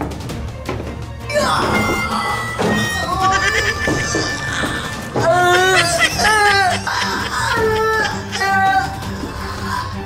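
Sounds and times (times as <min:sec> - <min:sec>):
background music with held tones: 0:00.0 - 0:10.0.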